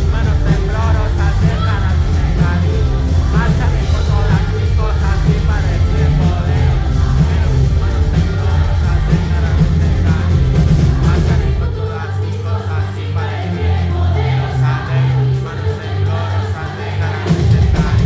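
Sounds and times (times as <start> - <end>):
loud live pop-rock music: 0.0 - 18.0.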